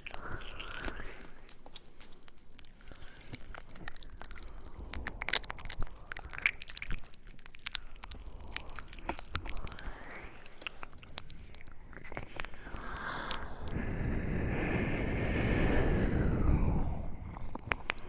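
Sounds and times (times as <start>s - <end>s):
wet mouth clicks and lip smacks: 0.0s - 13.8s, 17.2s - 18.0s.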